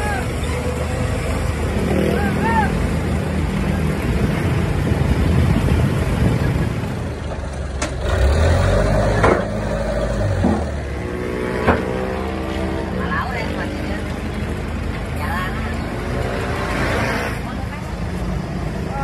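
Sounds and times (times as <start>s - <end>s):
forklift engine running: 0.0s - 16.8s.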